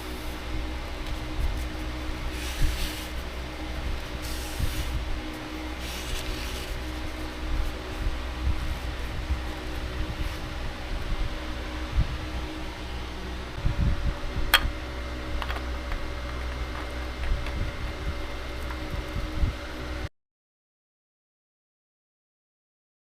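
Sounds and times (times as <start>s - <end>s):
mechanical hum with low rumble: 0.0s - 20.1s.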